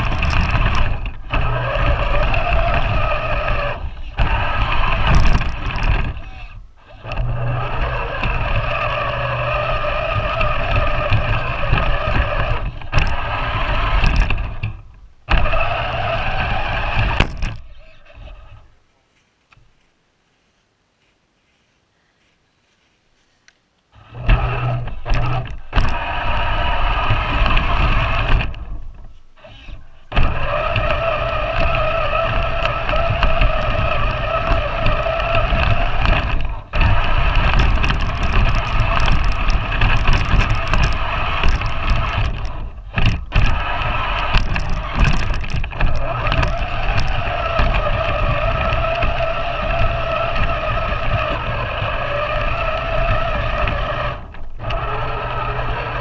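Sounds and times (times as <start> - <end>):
electric motor and gears whining: 0.0 - 18.8, 24.0 - 56.0
low chassis rumble: 0.0 - 18.8, 24.0 - 56.0.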